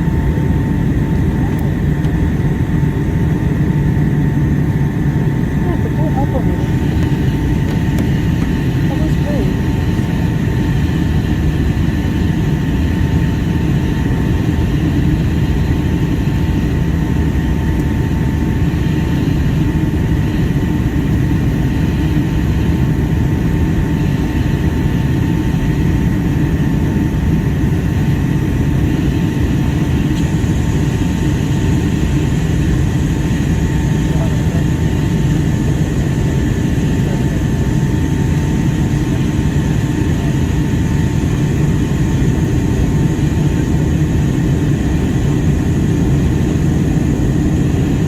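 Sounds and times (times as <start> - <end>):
airliner cabin rumble: 0.0 - 48.0
jet engine whine: 0.0 - 48.0.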